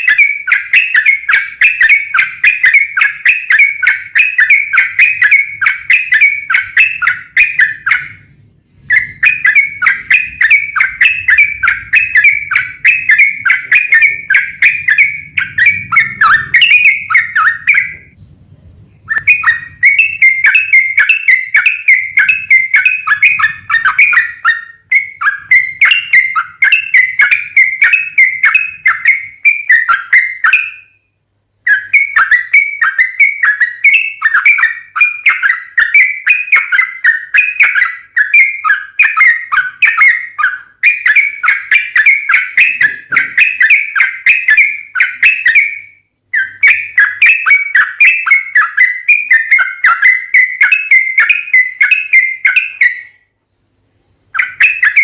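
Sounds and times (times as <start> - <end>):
bulbul chattering song: 0.0 - 55.0.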